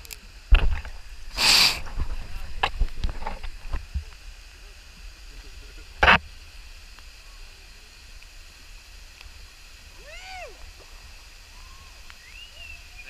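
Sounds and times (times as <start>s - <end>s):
rushing waterfalls and creek: 0.0s - 13.0s.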